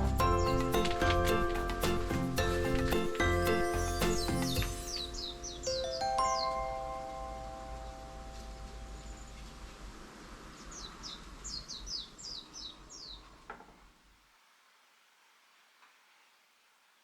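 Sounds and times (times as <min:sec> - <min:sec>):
low outdoor noise: 0:00.0 - 0:17.0.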